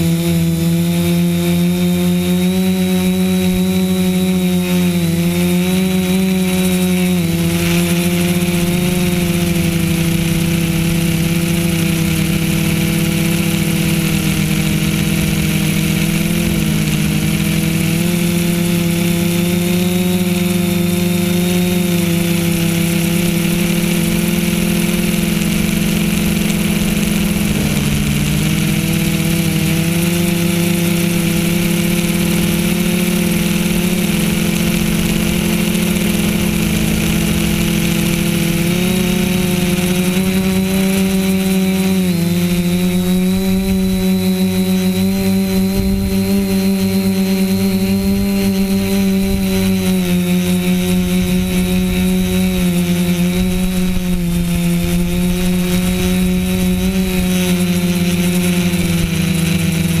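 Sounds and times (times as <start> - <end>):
drone motors buzzing: 0.0 - 60.0
high propeller whine: 0.0 - 60.0.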